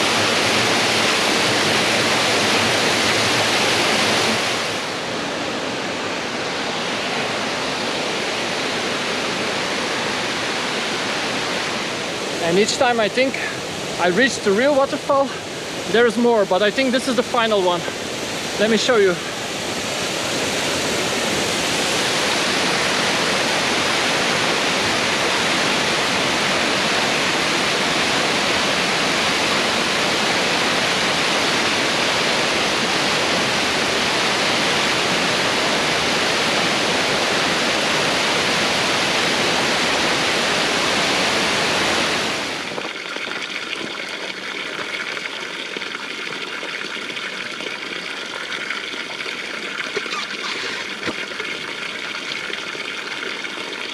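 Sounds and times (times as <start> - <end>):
waterfall crashing: 0.0 - 42.8, 50.0 - 51.7
running water: 0.0 - 53.9.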